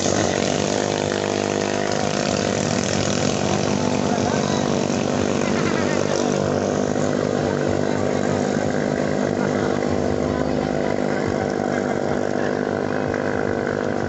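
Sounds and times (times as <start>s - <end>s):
small boat engines droning: 0.0s - 14.0s.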